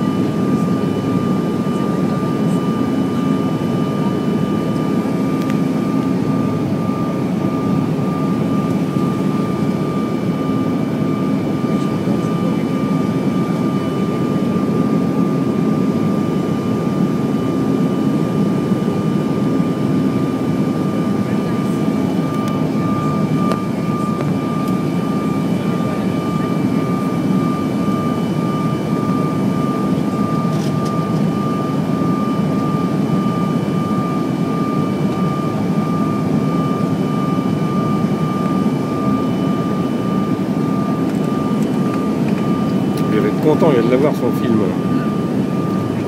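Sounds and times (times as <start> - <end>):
aircraft cabin roar: 0.0 - 46.0.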